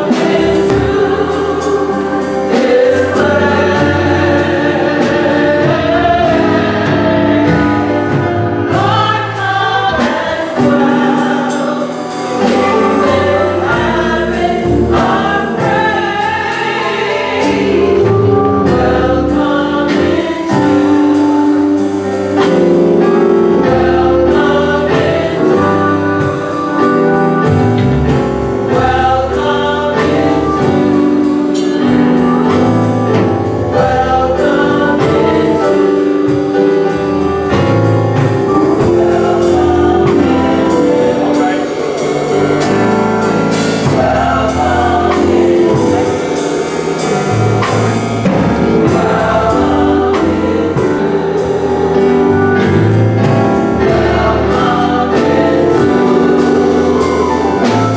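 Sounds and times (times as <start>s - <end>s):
steady beat: 0.0s - 21.6s, 22.4s - 57.9s
gospel choir singing: 0.0s - 57.9s.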